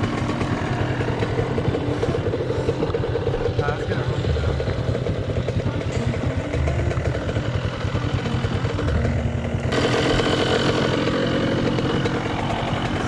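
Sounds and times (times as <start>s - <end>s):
two-stroke dirt bikes idling: 0.0s - 13.0s.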